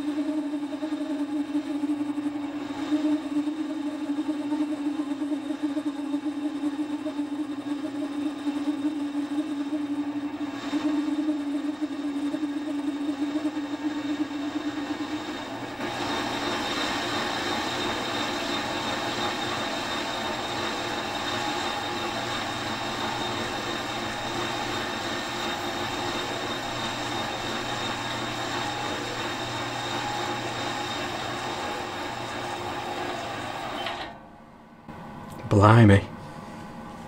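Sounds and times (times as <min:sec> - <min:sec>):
metal lathe motor and gear whine: 0:00.0 - 0:34.3.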